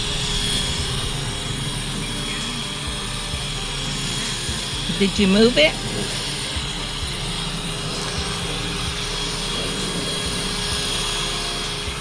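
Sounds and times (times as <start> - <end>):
electric polisher motor hum: 0.0 - 12.0.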